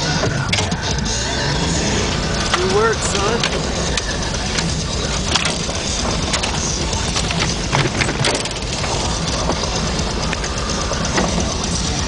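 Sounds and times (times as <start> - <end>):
engine and tyres rumbling: 0.0 - 12.0
knocks and rattles from bumps: 2.1 - 12.0.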